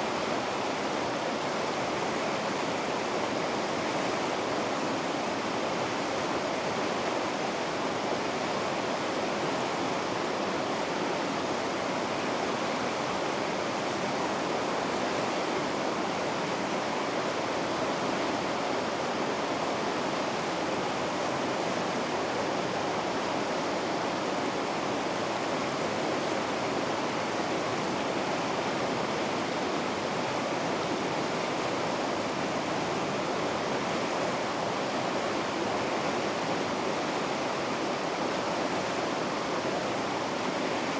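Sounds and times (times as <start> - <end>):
river rapids roaring: 0.0 - 40.9.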